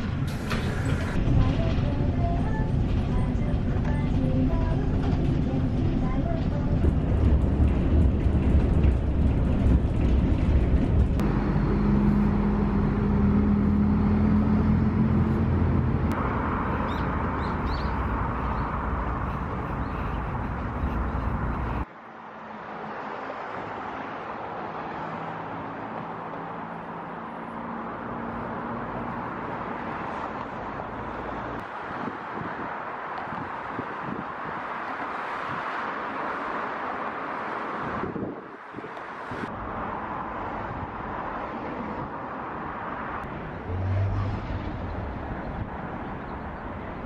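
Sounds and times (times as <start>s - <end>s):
bus engine drone: 0.0s - 47.0s
distant traffic: 0.0s - 47.0s
road noise: 0.0s - 47.0s.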